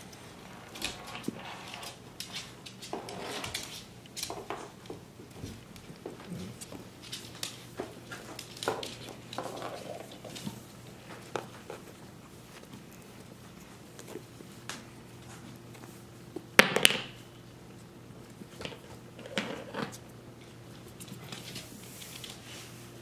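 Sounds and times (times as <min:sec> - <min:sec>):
puppy paws clicking on wood floor: 0:00.0 - 0:23.0.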